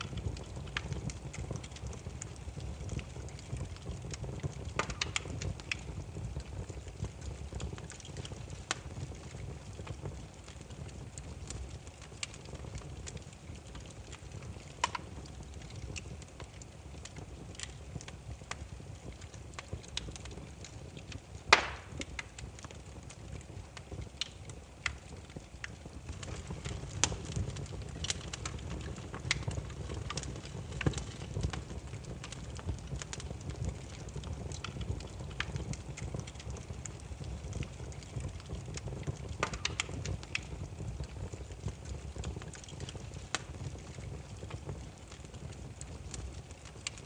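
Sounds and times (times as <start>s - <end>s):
firewood crackling and popping: 0.0s - 47.0s
low steady fire rumble: 0.0s - 47.0s.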